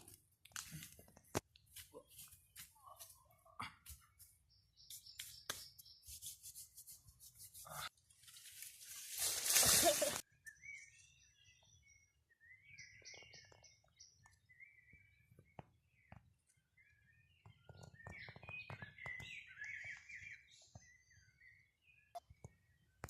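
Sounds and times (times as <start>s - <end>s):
small birds chirping: 1.5s - 7.4s, 9.8s - 23.0s.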